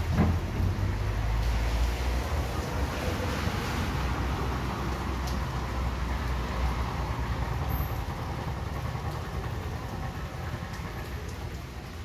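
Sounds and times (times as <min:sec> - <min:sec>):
steady rainfall hiss: 0:00.0 - 0:12.0.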